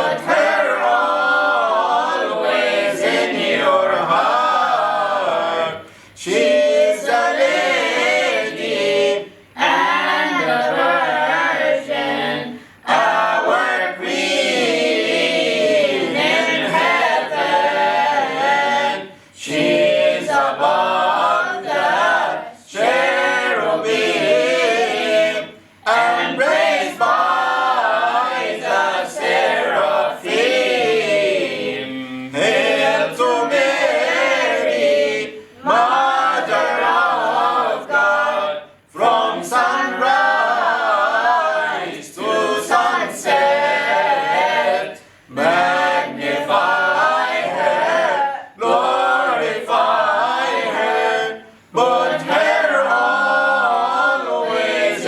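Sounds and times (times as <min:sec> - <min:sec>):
group singing a cappella hymn: 0:00.0 - 0:55.0.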